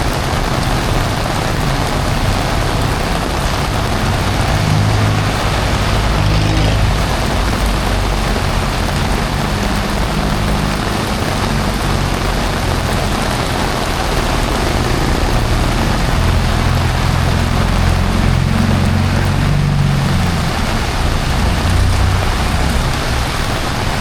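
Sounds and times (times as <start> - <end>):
heavy rain pouring: 0.0 - 24.0
road traffic engines hum: 0.0 - 24.0.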